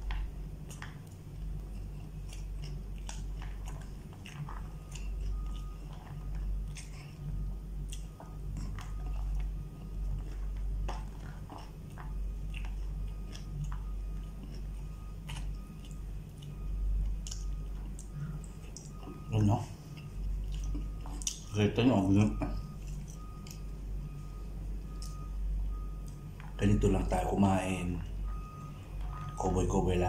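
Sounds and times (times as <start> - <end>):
person chewing food: 0.0 - 26.8, 27.6 - 29.6
steady low hum: 0.0 - 30.0.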